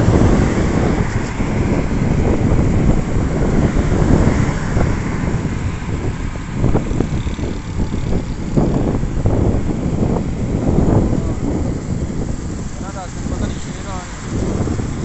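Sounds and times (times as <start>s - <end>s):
motorcycle engine and road noise: 0.0s - 15.0s
wind buffeting microphone: 0.0s - 15.0s.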